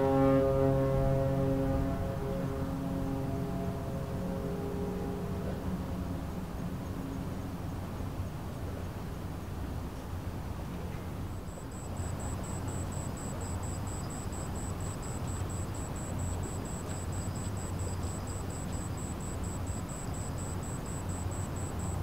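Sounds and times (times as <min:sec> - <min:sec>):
ferry engines droning: 0:00.0 - 0:08.8, 0:10.7 - 0:22.0.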